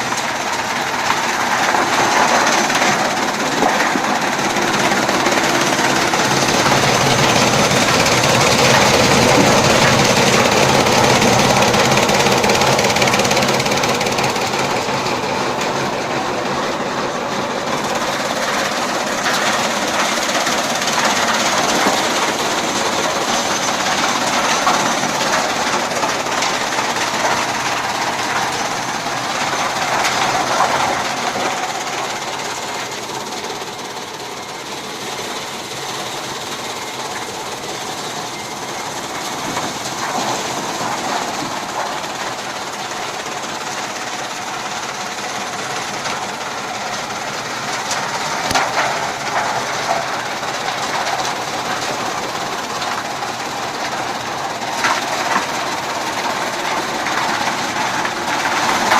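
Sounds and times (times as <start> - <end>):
chaff cutter machine running: 0.0 - 58.9.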